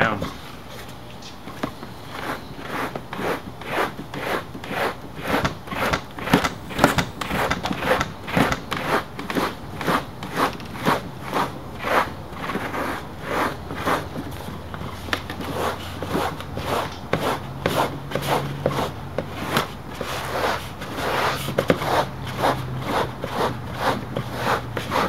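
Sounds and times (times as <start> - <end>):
rasp scraping foam: 2.1 - 25.0.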